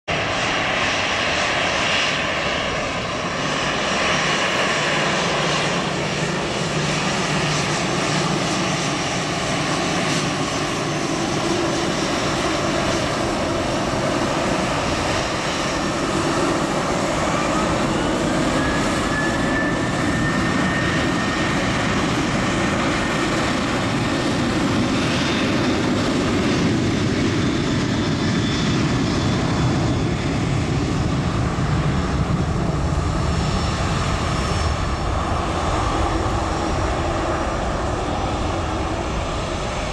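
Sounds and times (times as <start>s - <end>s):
jet engines with whine: 0.0s - 39.9s.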